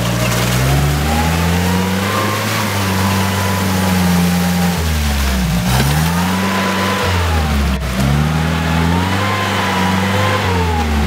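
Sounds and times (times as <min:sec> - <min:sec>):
van engine revving: 0:00.0 - 0:11.0.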